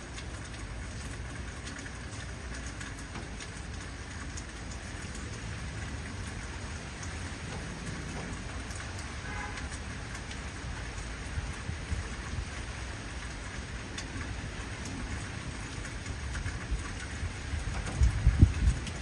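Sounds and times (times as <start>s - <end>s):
heavy rain falling: 0.0s - 19.0s
raindrops ticking on a surface: 0.0s - 19.0s.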